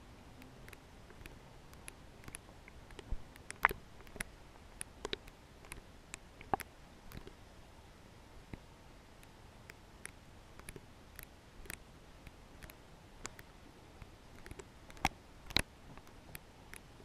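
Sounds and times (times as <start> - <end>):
low hiss: 0.0 - 17.0
faint clicks and taps: 0.4 - 7.4, 8.5 - 17.0.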